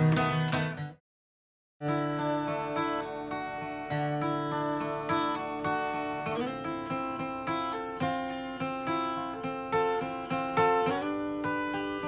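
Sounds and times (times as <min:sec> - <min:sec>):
acoustic guitar playing: 0:00.0 - 0:01.0, 0:01.8 - 0:12.0.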